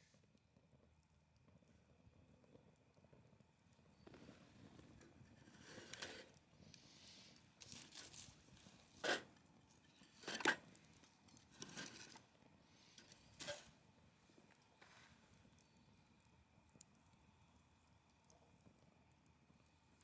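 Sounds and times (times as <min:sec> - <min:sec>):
wood fire crackling: 0:00.2 - 0:20.0.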